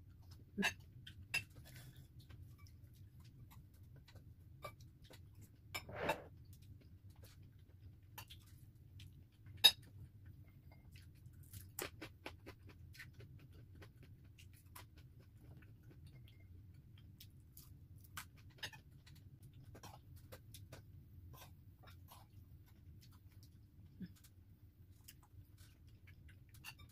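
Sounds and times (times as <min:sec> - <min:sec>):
quiet chewing: 0:00.1 - 0:26.9.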